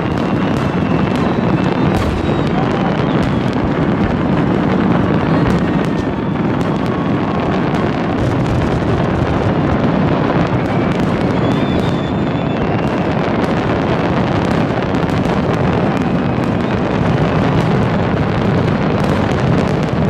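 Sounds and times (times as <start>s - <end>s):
faint high firework whistles: 0.0s - 20.0s
fireworks barrage rumble: 0.0s - 20.0s
sharp firework cracks: 0.0s - 20.0s.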